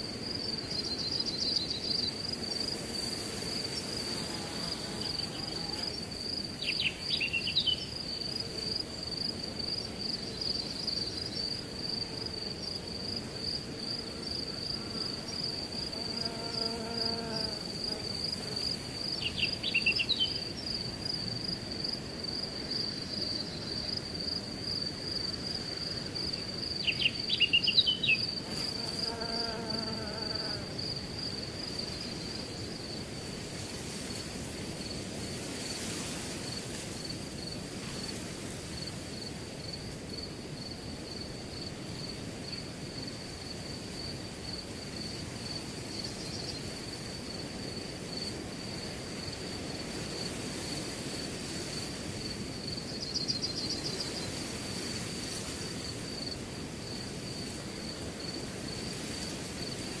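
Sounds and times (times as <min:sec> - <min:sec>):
cricket chirping trill: 0:00.0 - 0:33.1, 0:35.6 - 1:00.0
wind through grass: 0:00.0 - 1:00.0.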